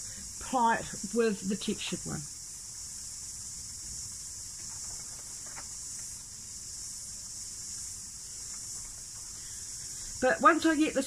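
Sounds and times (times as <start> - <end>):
cicadas singing: 0.0 - 11.0.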